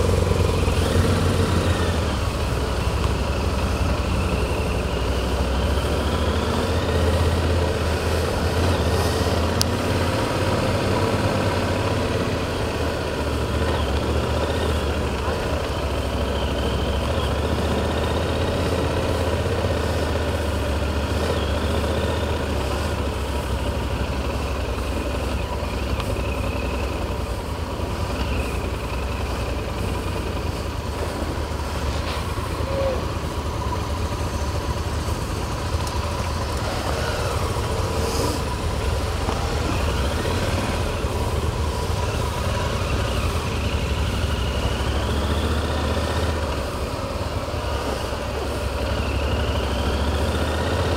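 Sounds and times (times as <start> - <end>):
motorcycle engine running: 0.0 - 50.9
road noise: 0.0 - 50.9.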